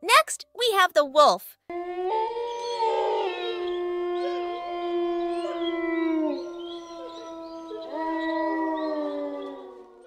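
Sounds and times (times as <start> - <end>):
wolf howling: 1.7 - 10.0.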